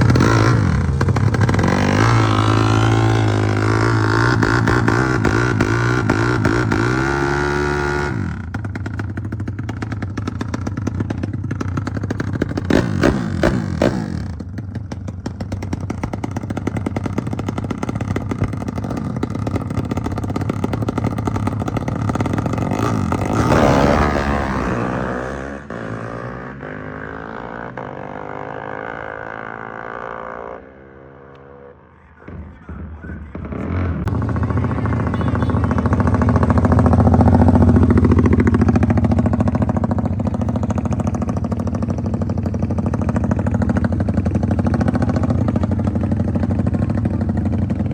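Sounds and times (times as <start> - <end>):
motorcycle engine revving: 0.0 - 32.4, 33.3 - 47.9.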